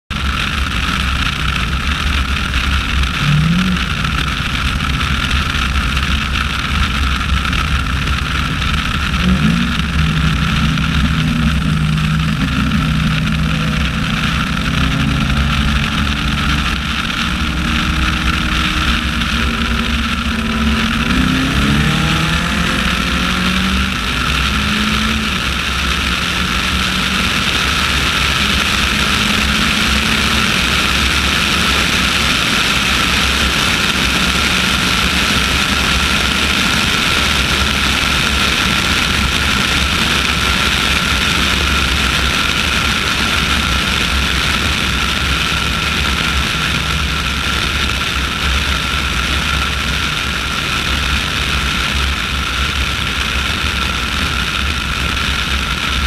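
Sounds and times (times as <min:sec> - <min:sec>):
car engine droning: 0:00.0 - 0:56.0
road rumble: 0:00.0 - 0:56.0
wind noise: 0:00.1 - 0:56.0.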